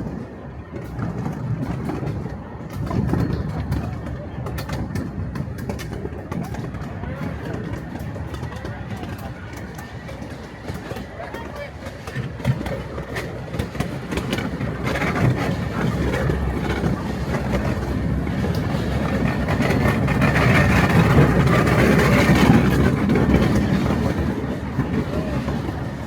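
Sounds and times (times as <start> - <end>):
miniature train running on track: 0.0 - 26.0.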